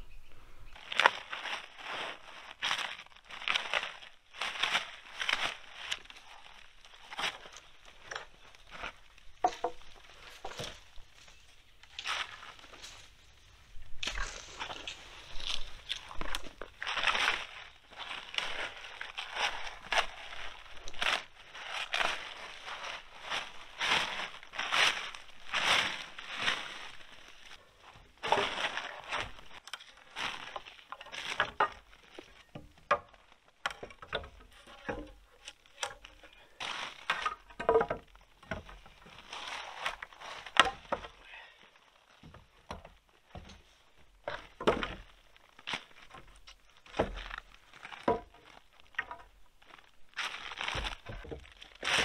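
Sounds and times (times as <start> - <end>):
rustling: 0.4 - 52.0
wooden poles knocking together: 0.9 - 13.1, 13.9 - 27.1, 27.8 - 41.3, 42.2 - 52.0.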